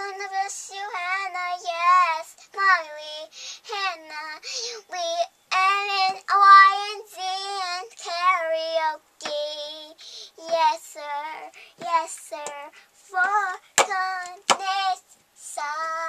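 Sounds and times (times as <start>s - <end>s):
girl singing held notes: 0.0s - 16.0s.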